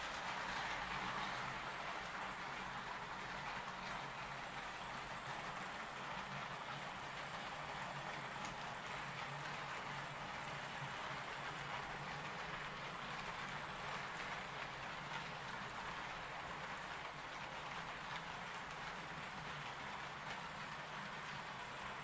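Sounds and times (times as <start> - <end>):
wheels rolling over rails: 0.0 - 22.0.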